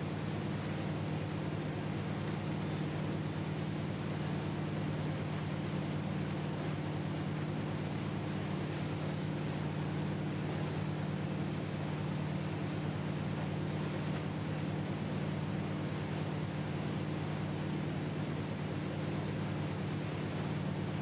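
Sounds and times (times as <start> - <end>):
rushing wake water: 0.0 - 21.0.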